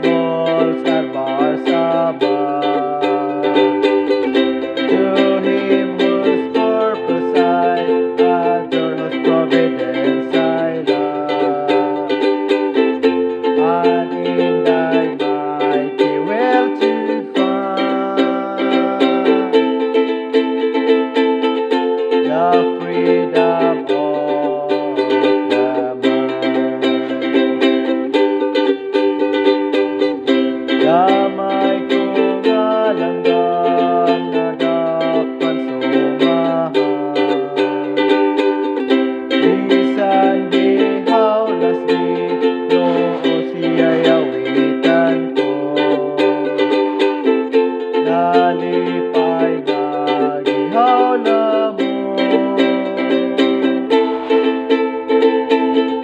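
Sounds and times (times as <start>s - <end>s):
person singing a hymn: 0.0s - 19.9s, 22.2s - 28.1s, 30.1s - 54.4s
ukulele strumming: 0.0s - 56.0s.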